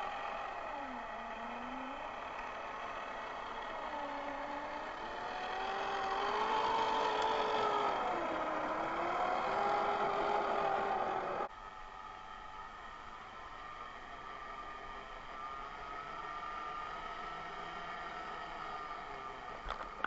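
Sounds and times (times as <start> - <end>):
toy truck electric motor whining: 0.0 - 11.5, 12.4 - 20.0.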